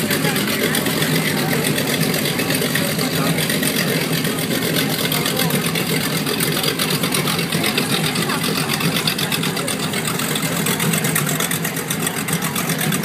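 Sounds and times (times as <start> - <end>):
boat engines idling: 0.0 - 13.0.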